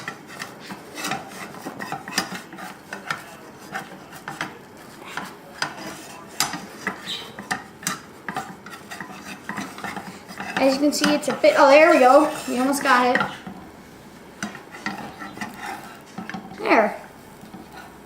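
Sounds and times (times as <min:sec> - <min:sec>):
spatula scraping a frying pan: 0:00.0 - 0:18.0.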